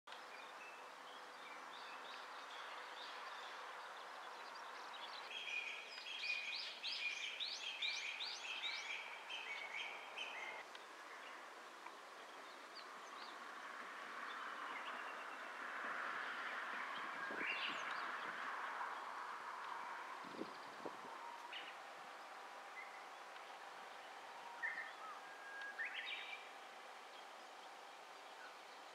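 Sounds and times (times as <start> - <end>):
outdoor background hiss: 0.1 - 28.9
birds chirping and singing: 0.2 - 11.5, 16.4 - 28.9.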